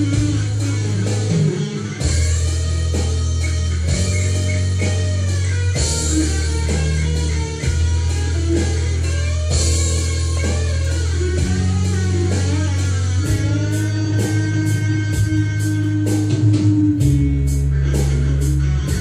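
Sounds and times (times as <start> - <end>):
electric guitar lead line: 0.0 - 19.0
sustained low bass notes: 0.0 - 19.0.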